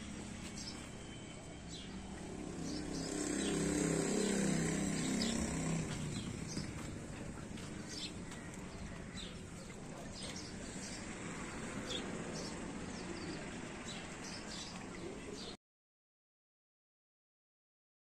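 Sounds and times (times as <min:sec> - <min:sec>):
outdoor background noise: 0:00.0 - 0:15.6
small birds chirping: 0:00.0 - 0:15.6.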